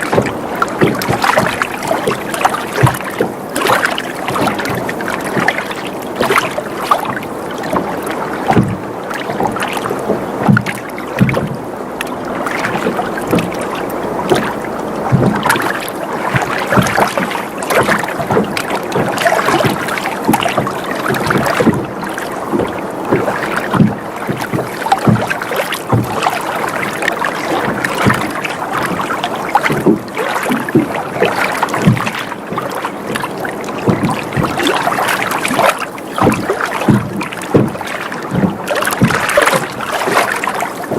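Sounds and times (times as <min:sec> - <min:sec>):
water lapping against boat hull: 0:00.0 - 0:40.9.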